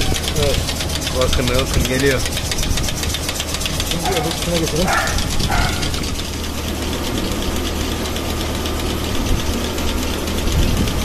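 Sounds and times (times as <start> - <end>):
milking machine pump pulsing: 0.0 - 11.0.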